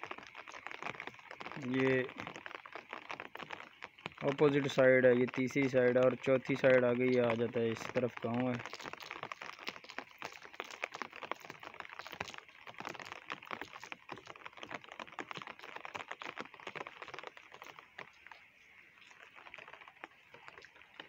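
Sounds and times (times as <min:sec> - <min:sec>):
rain hiss: 0:00.0 - 0:21.0
raindrops tapping: 0:00.0 - 0:21.0.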